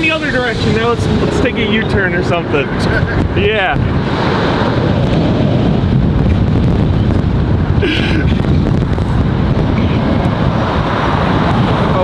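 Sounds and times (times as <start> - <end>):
road and engine rumble: 0.0 - 12.0
wind buffeting microphone: 0.0 - 12.0.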